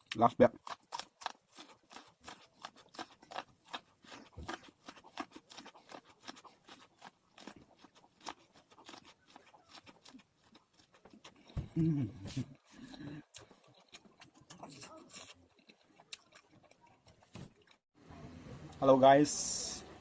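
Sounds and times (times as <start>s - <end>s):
popcorn being chewed: 0.0s - 17.8s.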